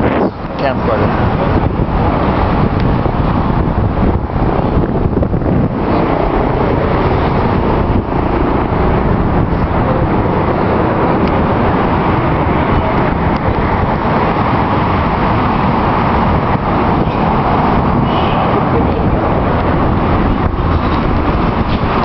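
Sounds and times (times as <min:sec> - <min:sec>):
motor traffic: 0:00.0 - 0:22.0.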